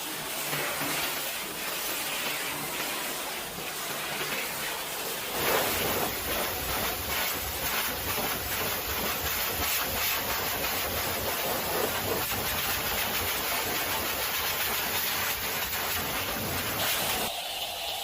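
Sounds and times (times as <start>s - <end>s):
high-pressure water spray hissing: 0.0s - 18.0s.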